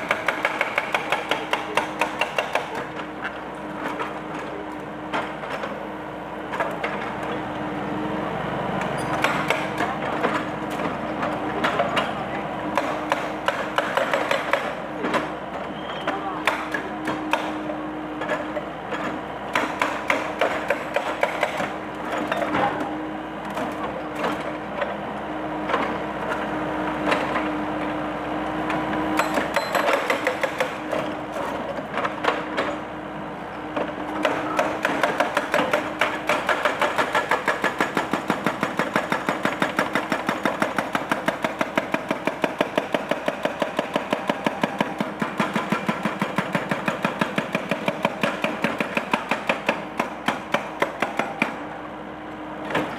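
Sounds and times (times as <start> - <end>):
hydraulic breaker hammering concrete: 0.0 - 5.9, 8.9 - 25.0, 28.6 - 33.0, 33.7 - 51.7.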